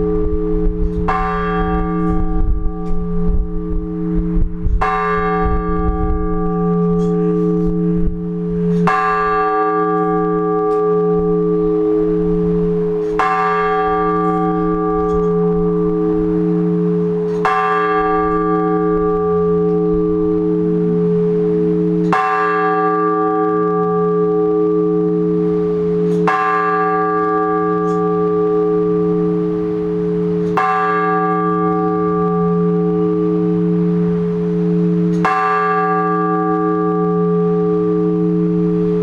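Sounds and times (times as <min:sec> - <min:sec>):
large church bell tolling: 0:00.0 - 0:39.0.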